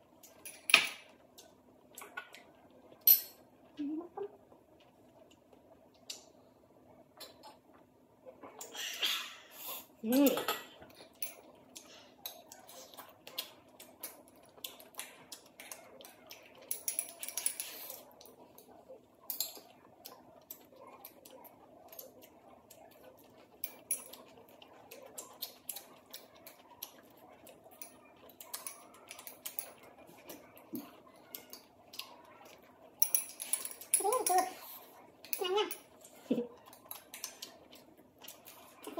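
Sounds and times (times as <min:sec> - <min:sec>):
hissy eating noises: 0:03.6 - 0:38.9.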